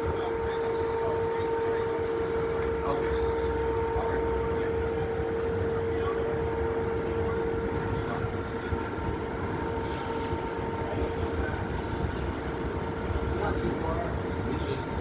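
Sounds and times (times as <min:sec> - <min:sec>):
constant mechanical hum: 0:00.0 - 0:15.0.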